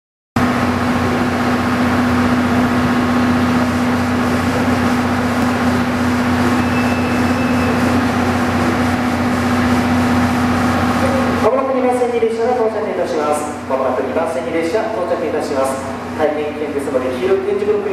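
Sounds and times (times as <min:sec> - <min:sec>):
diesel engine idling: 0:00.4 - 0:17.9.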